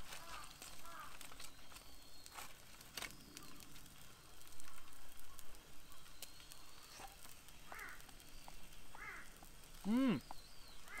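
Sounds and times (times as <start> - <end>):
fire crackling and sizzling: 0.0 - 11.0.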